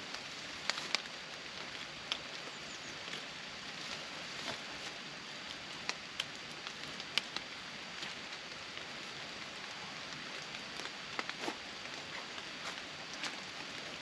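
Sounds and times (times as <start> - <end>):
raindrops ticking: 0.0 - 14.0
steady rain patter: 0.0 - 14.0.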